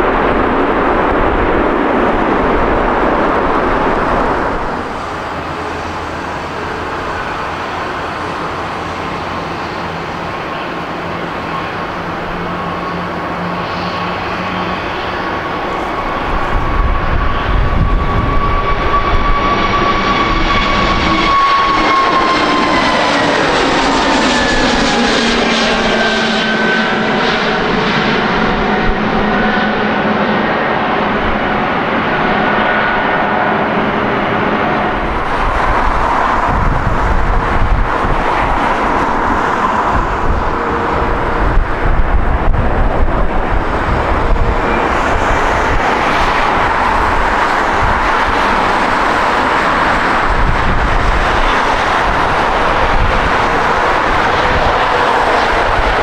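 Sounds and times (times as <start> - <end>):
deep jet rumble with crackling: 0.0 - 56.0
jet engines whining past: 0.0 - 56.0.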